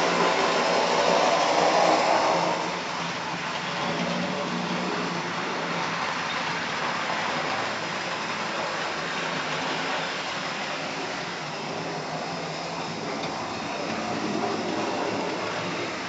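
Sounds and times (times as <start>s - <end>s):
model trains whirring on track: 0.0s - 16.0s.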